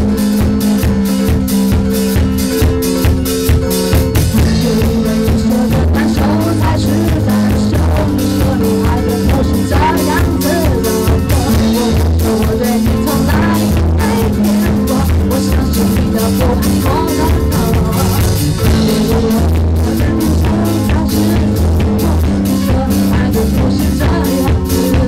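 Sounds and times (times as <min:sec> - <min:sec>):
drum kit beat: 0:00.0 - 0:25.0
rock band playing: 0:00.0 - 0:25.0.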